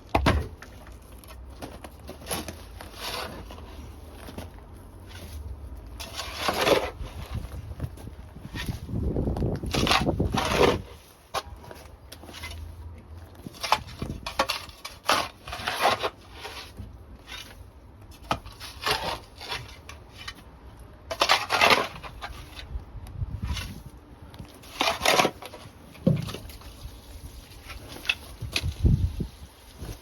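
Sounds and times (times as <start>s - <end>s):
scraping crunching strokes: 0.5s - 30.0s.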